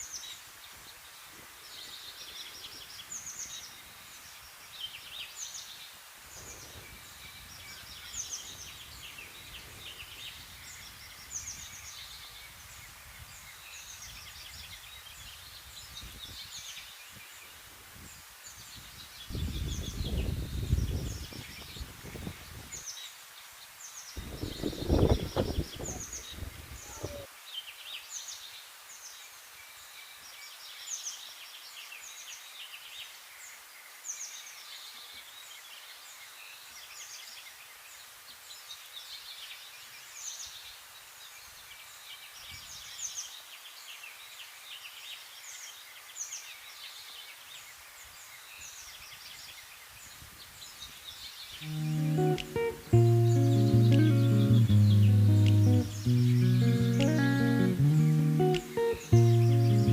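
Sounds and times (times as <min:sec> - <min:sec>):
small birds chirping: 0:00.0 - 0:29.1, 0:30.1 - 0:59.9.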